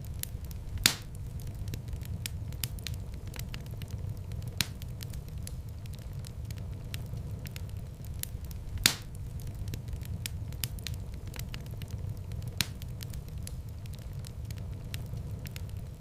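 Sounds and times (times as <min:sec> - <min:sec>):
fire pops: 0:00.0 - 0:16.0
steady low rumble: 0:00.0 - 0:16.0
wood fire crackling: 0:00.0 - 0:16.0.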